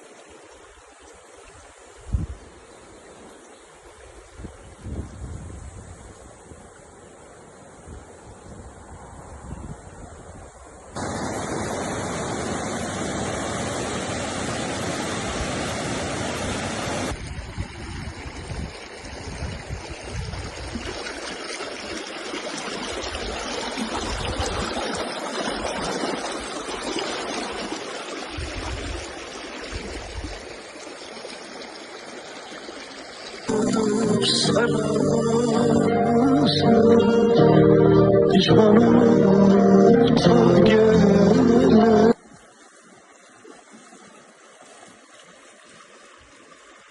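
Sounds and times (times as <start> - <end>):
rushing flowing water: 0.0 - 5.1, 10.9 - 46.9.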